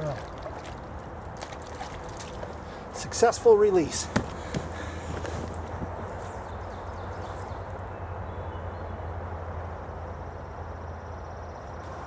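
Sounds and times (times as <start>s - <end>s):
small stream flowing: 0.0s - 10.3s.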